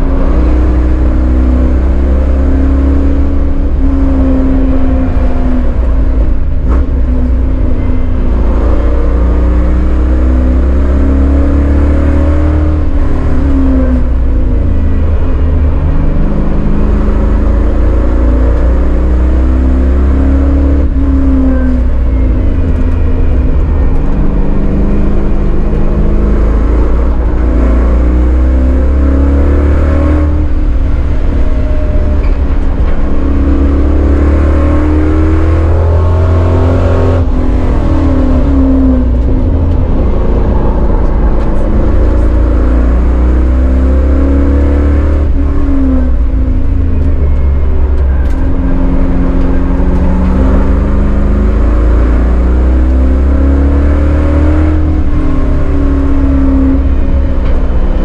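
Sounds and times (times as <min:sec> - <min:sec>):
car engine accelerating and braking: 0:00.0 - 0:58.0.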